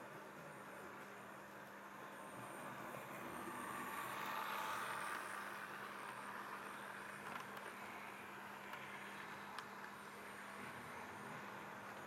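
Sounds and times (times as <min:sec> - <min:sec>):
train wheels rolling on track: 0:00.2 - 0:12.0
model train motor whirring: 0:02.2 - 0:12.0.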